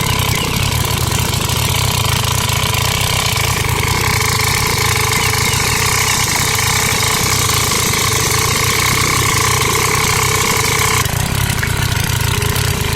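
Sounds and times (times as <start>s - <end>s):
engine idling: 0.0s - 12.9s
steady whine: 0.0s - 12.9s.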